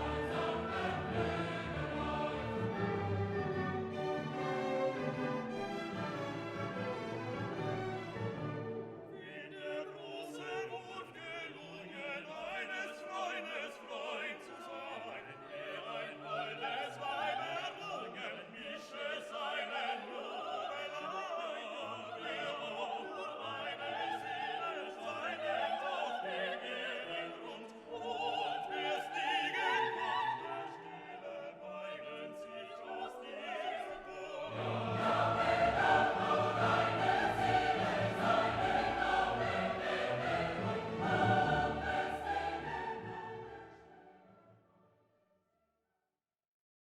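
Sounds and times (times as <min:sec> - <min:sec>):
orchestral music with choral singing: 0:00.0 - 0:44.7.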